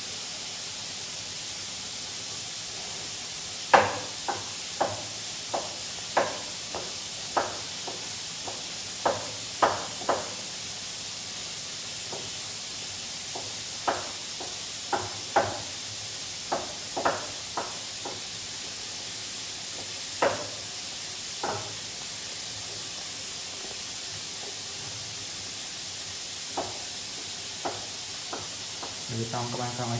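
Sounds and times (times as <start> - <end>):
steady background hiss: 0.0 - 29.9.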